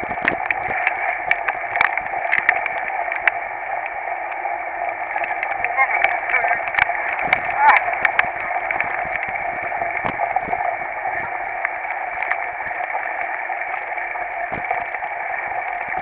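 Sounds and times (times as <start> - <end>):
heavy rain and wind: 0.0 - 16.0.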